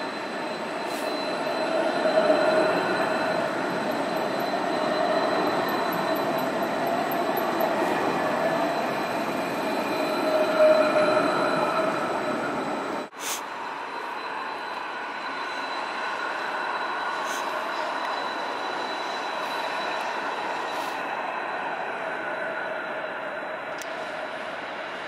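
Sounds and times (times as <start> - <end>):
tram running noise: 0.0 - 25.0
wheels squealing against rails: 0.0 - 25.0.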